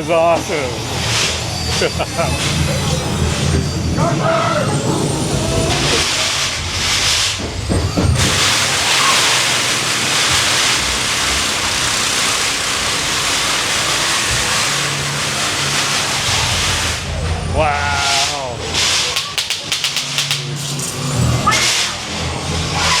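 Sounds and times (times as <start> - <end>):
loud steady hissing: 0.0 - 22.7.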